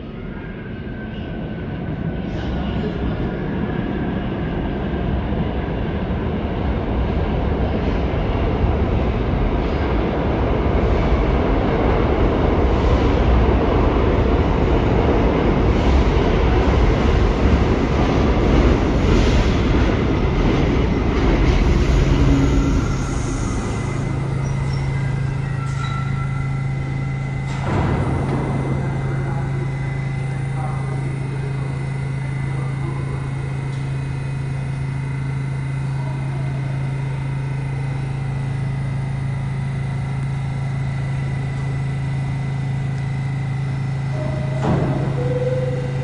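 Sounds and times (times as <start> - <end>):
low hum: 0.0 - 46.0
subway train wheels rumbling: 0.0 - 46.0.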